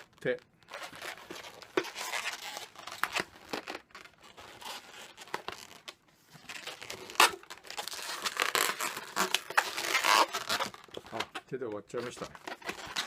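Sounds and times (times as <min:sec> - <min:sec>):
balloon rubbing and crinkling: 0:00.0 - 0:13.0.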